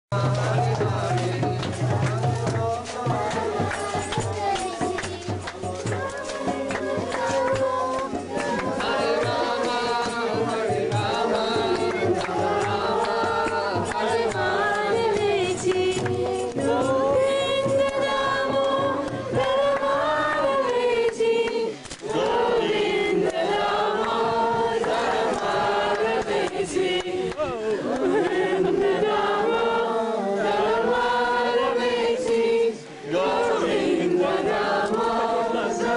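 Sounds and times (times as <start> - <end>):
percussion steady beat: 0.1 - 35.9
group chanting in chorus: 0.2 - 35.9.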